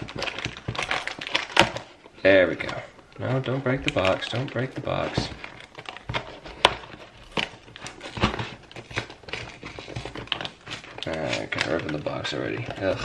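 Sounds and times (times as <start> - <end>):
cardboard scraping and crinkling: 0.0 - 13.0.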